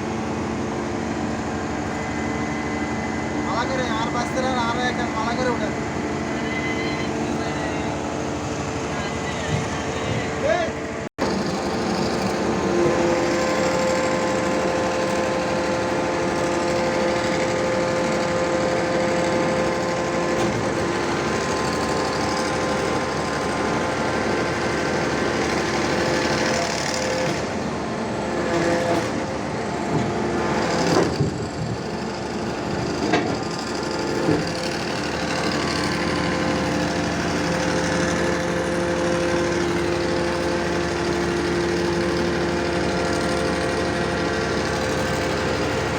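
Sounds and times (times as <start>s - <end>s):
hydraulic whine: 0.0s - 45.9s
pile driver engine drone: 0.0s - 45.9s.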